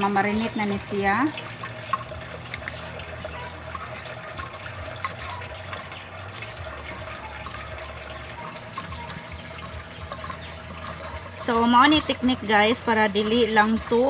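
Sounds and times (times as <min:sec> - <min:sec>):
wet squishing and sloshing: 0:00.0 - 0:14.0.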